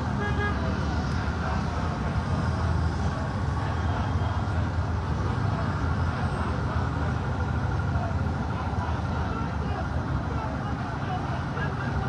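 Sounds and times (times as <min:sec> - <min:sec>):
street noise: 0:00.0 - 0:12.0
vehicle engines rumbling: 0:00.0 - 0:12.0.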